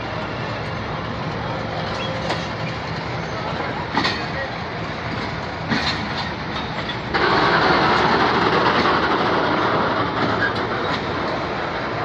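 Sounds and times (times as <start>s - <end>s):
train coaches clattering on track: 0.0s - 12.0s.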